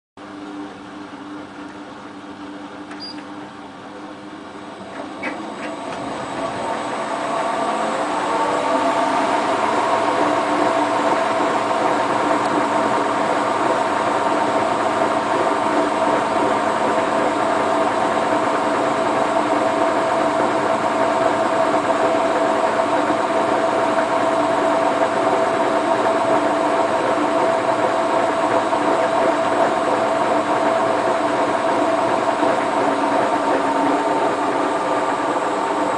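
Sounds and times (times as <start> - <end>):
washing machine spinning: 0.3 - 35.9.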